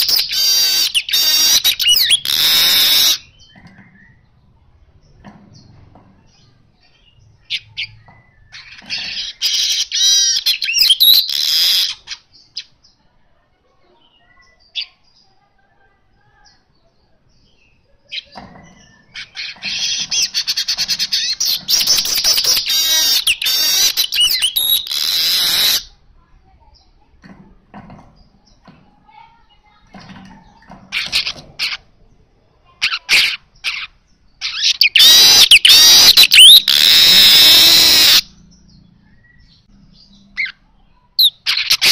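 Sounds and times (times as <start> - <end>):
bird singing rapid chattering: 0.0 - 13.1, 14.0 - 41.9.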